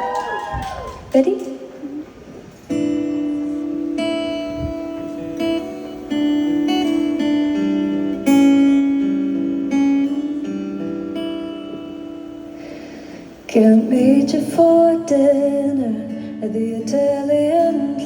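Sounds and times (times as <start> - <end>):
acoustic guitar chords ringing: 2.7 - 18.0.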